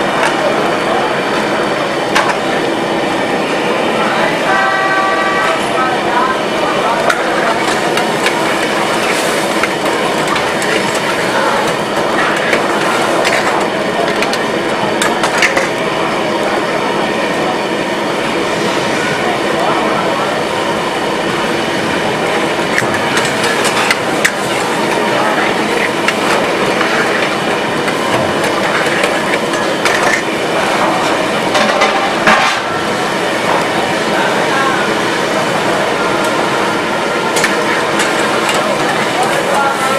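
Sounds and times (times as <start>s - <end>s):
gas burner: 0.0s - 39.9s
gravy cooking: 6.2s - 39.9s.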